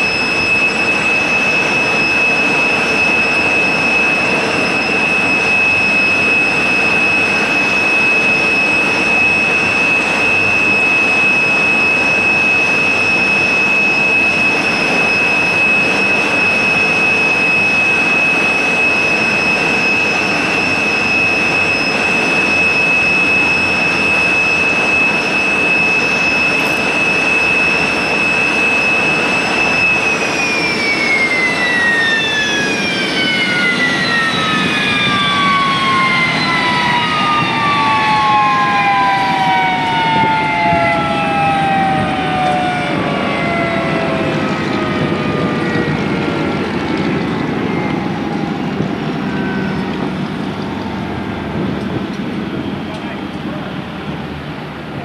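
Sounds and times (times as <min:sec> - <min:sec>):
jet engines spooling down: 0:00.0 - 0:55.0
steady rushing noise: 0:00.0 - 0:55.0.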